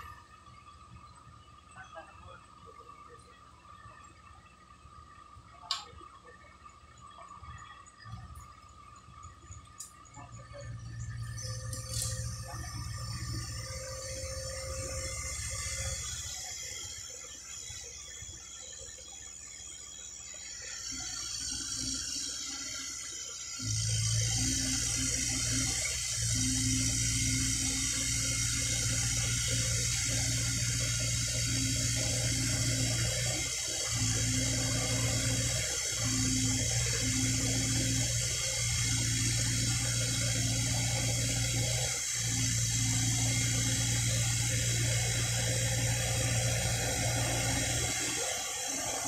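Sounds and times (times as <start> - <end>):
excavator diesel engine humming: 6.5 - 49.0.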